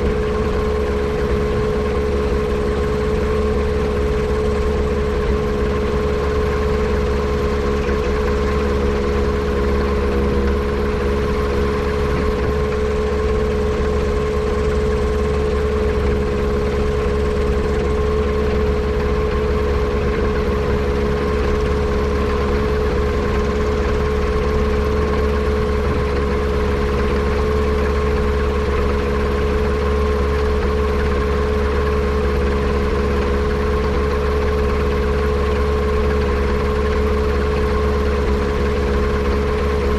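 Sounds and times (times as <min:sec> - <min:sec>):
aircraft engine running with misfire: 0:00.0 - 0:39.9.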